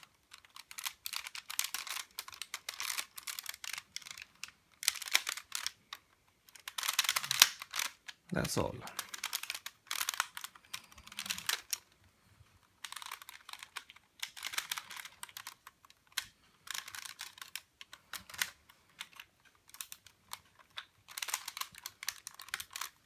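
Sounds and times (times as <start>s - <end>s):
plastic toy parts clicking: 0.0s - 12.0s, 12.6s - 23.0s.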